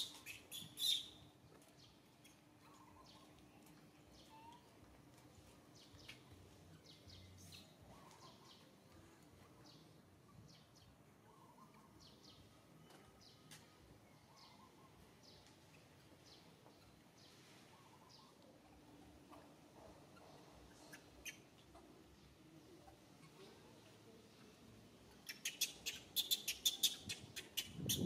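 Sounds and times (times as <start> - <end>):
quiet outdoor hiss: 0.0 - 28.0
small birds chirping: 0.0 - 28.0.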